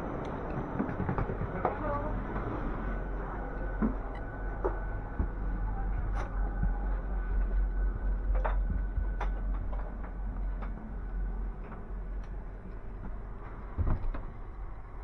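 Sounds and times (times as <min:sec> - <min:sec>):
low hum in train car: 0:00.0 - 0:15.0.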